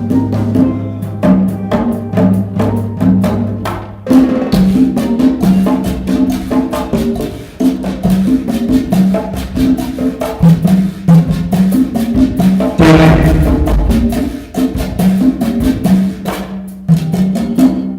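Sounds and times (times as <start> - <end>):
hand drums playing a groove: 0.0 - 17.9.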